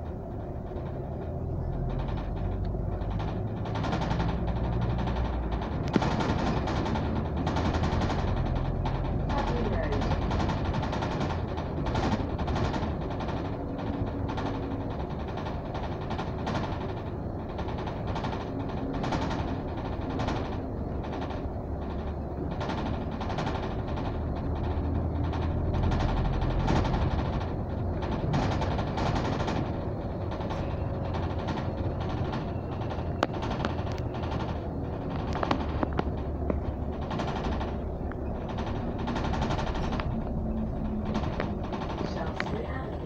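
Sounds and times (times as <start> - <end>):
bodywork and windows rattling: 0.0 - 43.0
bus engine and road rumble: 0.0 - 43.0.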